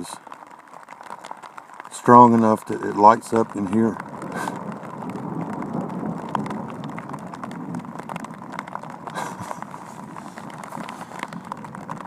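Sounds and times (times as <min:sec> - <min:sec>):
rain on fabric cover: 0:00.0 - 0:12.0.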